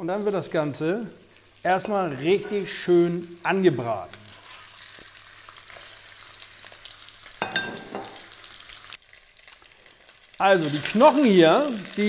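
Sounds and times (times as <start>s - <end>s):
bones sizzling in hot oil: 0.0s - 12.0s.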